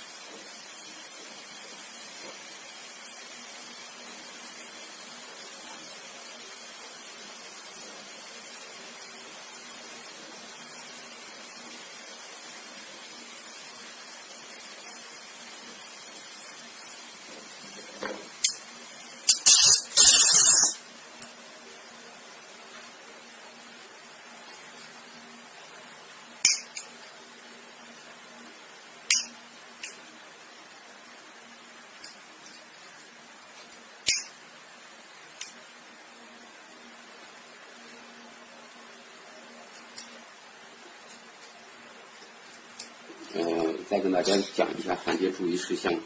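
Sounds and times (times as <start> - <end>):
torch flame hissing: 0.0 - 46.0.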